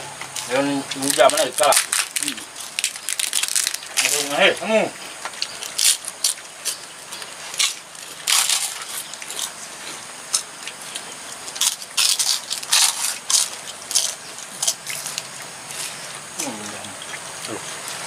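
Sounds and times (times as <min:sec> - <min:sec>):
people crunching food: 0:00.3 - 0:18.0.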